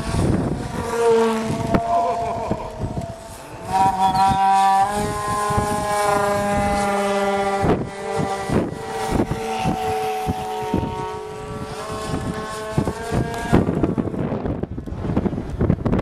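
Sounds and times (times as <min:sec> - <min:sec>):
model plane motor whining: 0:00.0 - 0:15.8
wind buffeting microphone: 0:00.0 - 0:16.0.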